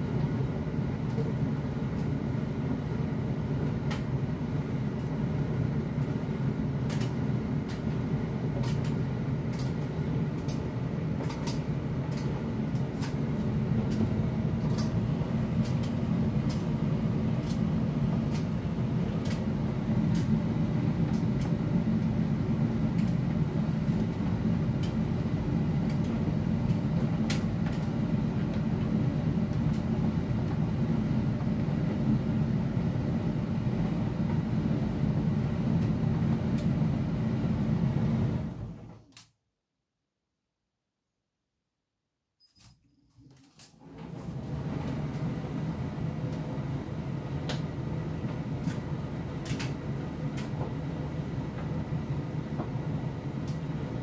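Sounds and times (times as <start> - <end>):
tumble dryer humming: 0.0 - 39.1, 43.8 - 54.0.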